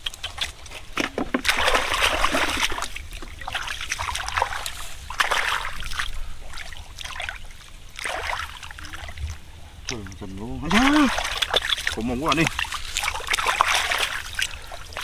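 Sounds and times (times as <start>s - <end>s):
hands splashing in muddy water: 0.0s - 9.2s, 9.8s - 15.0s.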